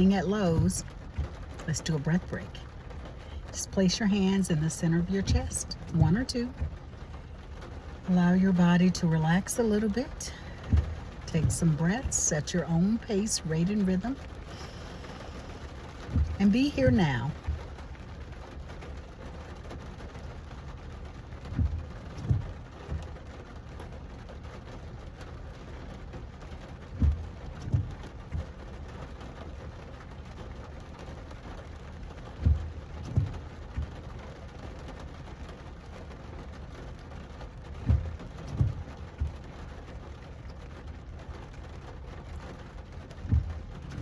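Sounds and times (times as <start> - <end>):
rain hissing: 0.0 - 44.0.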